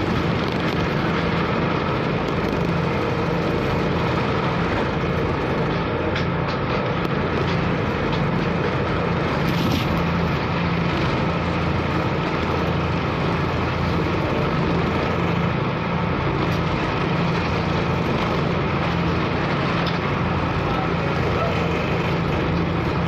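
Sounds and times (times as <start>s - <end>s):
ferry engine droning: 0.0s - 23.0s
waves: 0.0s - 23.0s.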